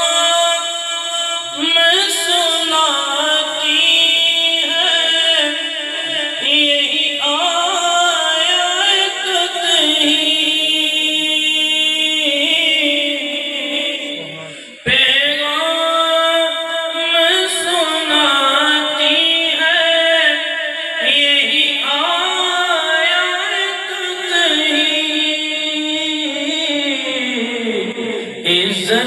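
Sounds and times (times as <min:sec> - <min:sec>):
man singing into a microphone: 0:00.0 - 0:29.0.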